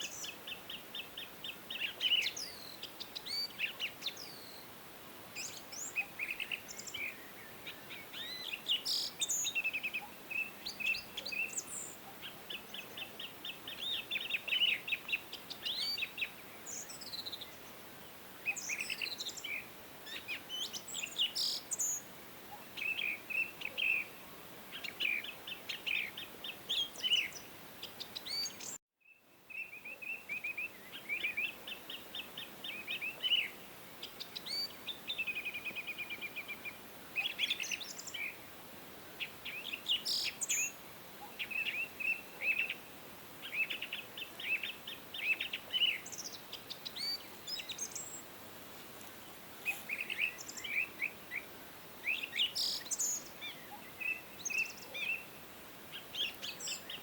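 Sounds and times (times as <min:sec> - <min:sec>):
faint background hiss: 0:00.0 - 0:57.0.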